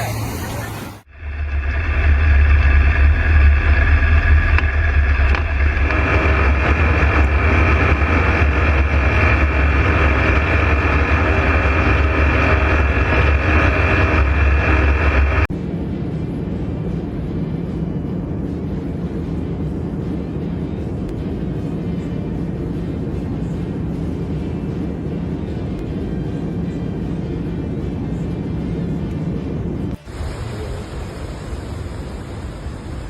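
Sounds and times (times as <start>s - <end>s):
engine drone with low rumble: 0.0s - 33.0s
engine whine: 0.0s - 33.0s.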